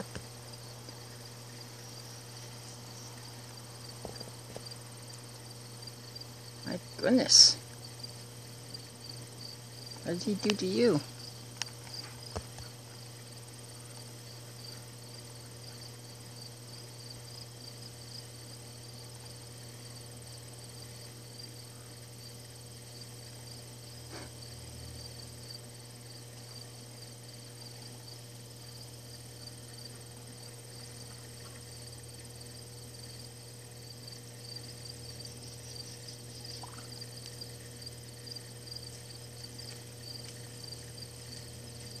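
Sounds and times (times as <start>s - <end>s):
insects chirping: 0.0s - 42.0s
low steady hum: 0.0s - 42.0s.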